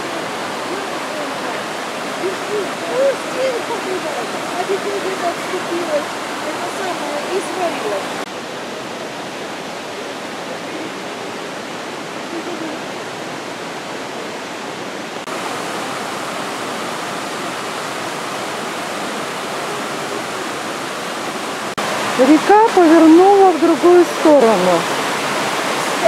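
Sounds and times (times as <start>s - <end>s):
water rushing over rocks: 0.0s - 26.0s.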